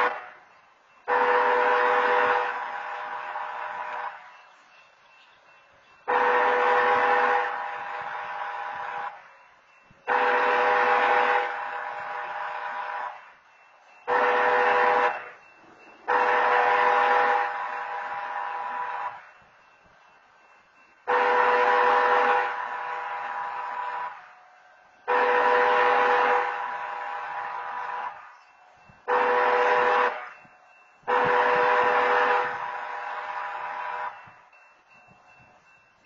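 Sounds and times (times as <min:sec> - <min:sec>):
wayside train horn blasts: 0:00.0 - 0:35.7.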